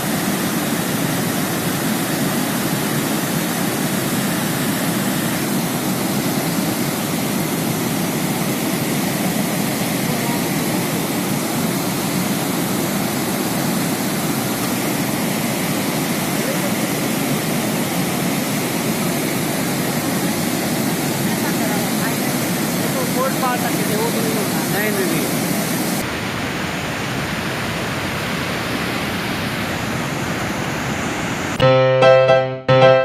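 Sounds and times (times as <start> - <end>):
flood torrent roaring: 0.0 - 31.7.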